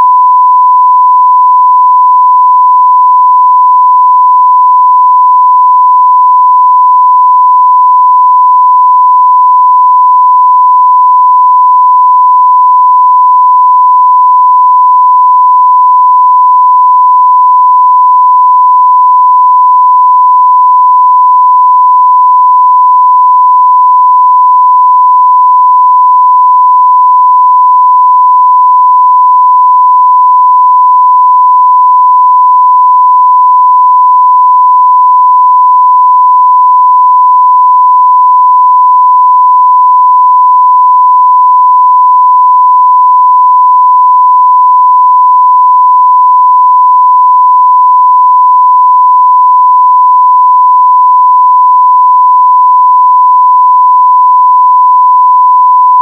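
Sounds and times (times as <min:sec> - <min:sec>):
sine wave test tone: 0:00.0 - 0:56.0.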